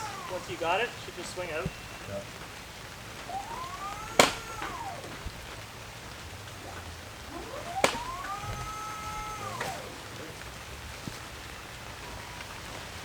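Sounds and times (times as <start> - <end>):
heavy rain: 0.0 - 13.0
hydraulic boom lift whining: 0.0 - 13.0.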